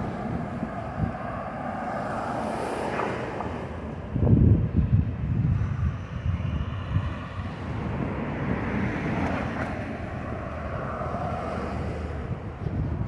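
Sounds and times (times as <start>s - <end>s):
traffic passing: 0.0s - 13.0s.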